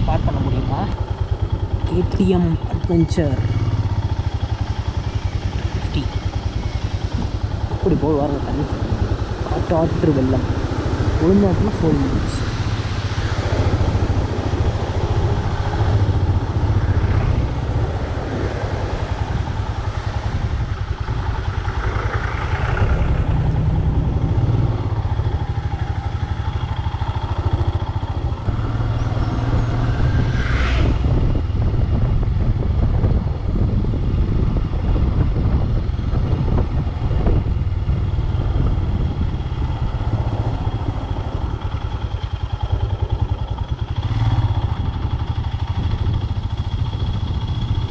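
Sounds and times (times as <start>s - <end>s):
motorcycle engine rumbling: 0.0s - 47.9s.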